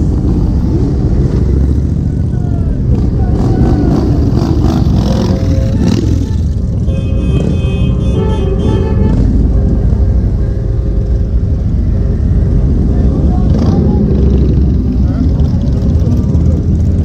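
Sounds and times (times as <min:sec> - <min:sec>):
motorcycles rumbling past: 0:00.0 - 0:08.0, 0:11.2 - 0:17.0.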